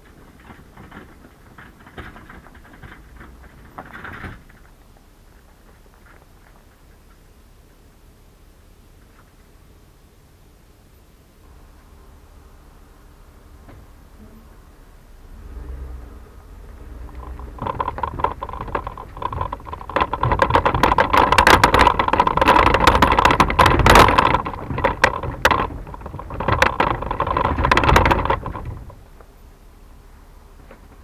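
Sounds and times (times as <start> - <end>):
tyres rolling over gravel: 0.0 - 9.6, 11.4 - 31.0.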